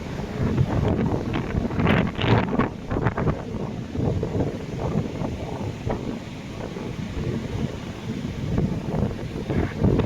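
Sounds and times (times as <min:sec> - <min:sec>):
storm wind buffeting microphone: 0:00.0 - 0:10.0.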